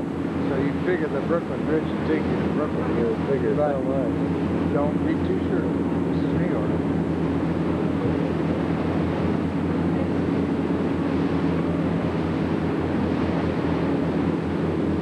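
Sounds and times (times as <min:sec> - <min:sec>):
boat engine droning: 0:00.0 - 0:15.0
wind and water rushing: 0:00.0 - 0:15.0.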